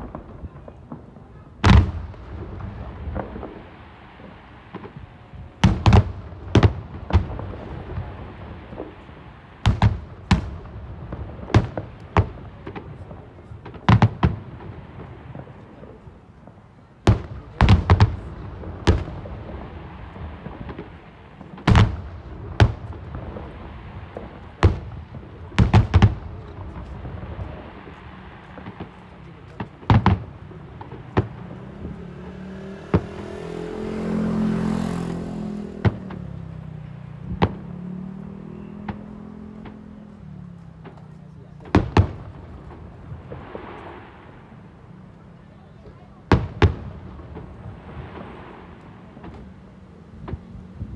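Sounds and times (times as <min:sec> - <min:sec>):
fireworks bangs: 0:00.0 - 0:50.9.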